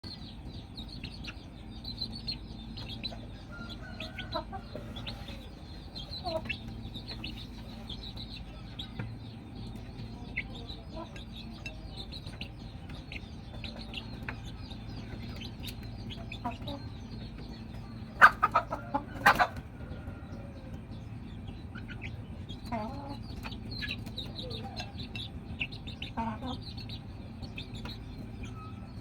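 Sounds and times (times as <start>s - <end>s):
chickens clucking and chirping: 0.0s - 29.0s.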